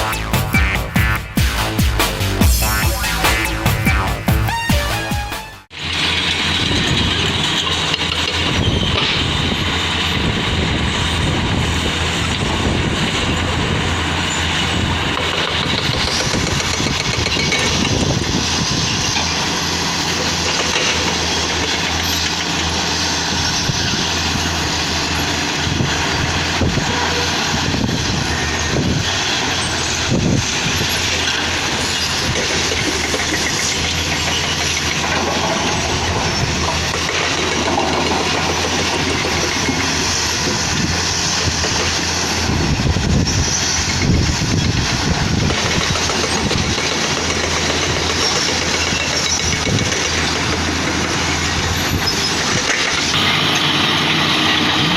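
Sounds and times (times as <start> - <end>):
heavy machine diesel engines: 0.0 - 54.9.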